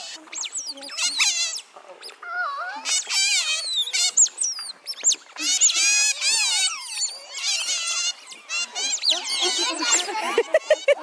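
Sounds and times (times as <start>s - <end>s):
otters chirping and squeaking: 0.0s - 11.0s.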